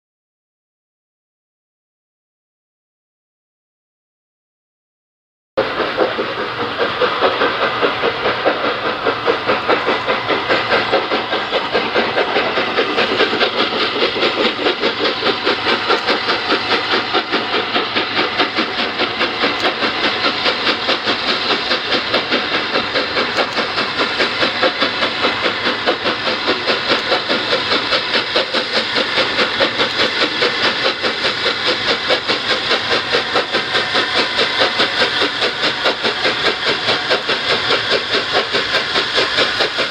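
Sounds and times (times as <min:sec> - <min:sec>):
steam locomotive exhaust beats: 0:05.6 - 0:39.9.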